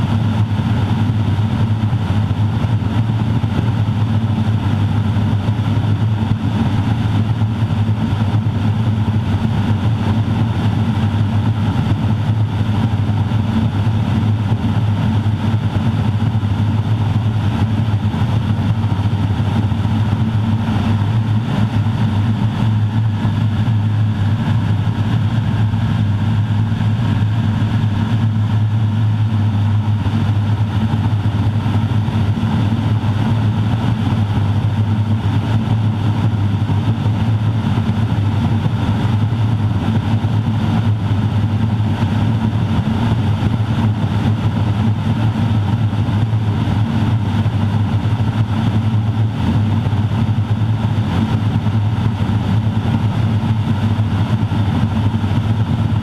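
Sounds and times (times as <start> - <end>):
turboprop engine and propeller drone: 0.0 - 56.0.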